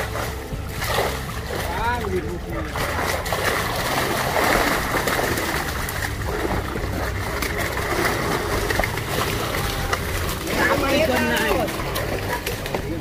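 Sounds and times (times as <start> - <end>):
fish thrashing and splashing: 0.0 - 13.0.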